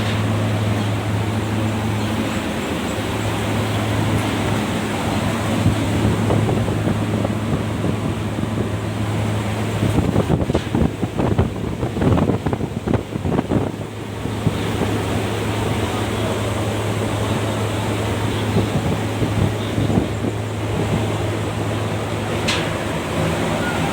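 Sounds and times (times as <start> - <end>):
blower air rushing: 0.0 - 23.9.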